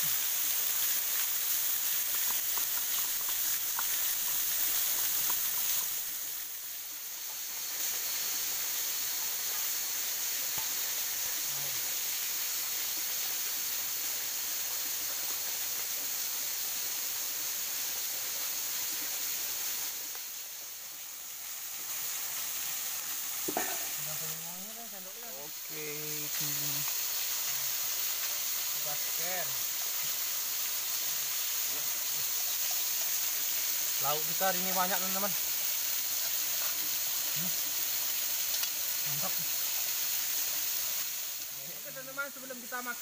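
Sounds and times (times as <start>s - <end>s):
fish sizzling in hot oil: 0.0s - 43.0s.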